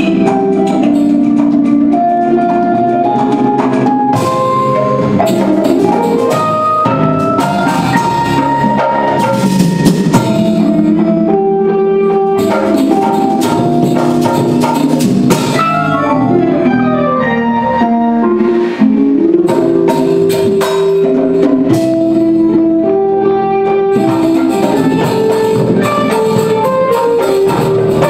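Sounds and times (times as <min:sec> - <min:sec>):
hand drums: 0:00.0 - 0:11.5, 0:12.2 - 0:16.9, 0:17.9 - 0:22.7, 0:23.9 - 0:28.0
metal percussion striking: 0:00.0 - 0:11.5, 0:12.2 - 0:22.8, 0:23.9 - 0:28.0
electric bass: 0:00.0 - 0:28.0
electric piano: 0:00.0 - 0:28.0
guitar: 0:00.0 - 0:28.0.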